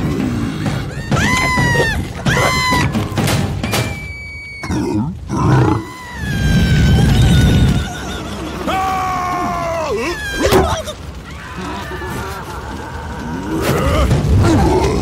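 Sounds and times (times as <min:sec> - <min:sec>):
film score music: 0:00.0 - 0:15.0.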